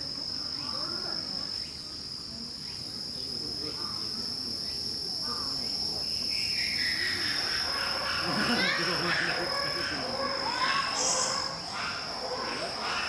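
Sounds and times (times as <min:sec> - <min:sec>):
faint distant voices: 0:00.0 - 0:13.0
insects trilling: 0:00.0 - 0:13.0.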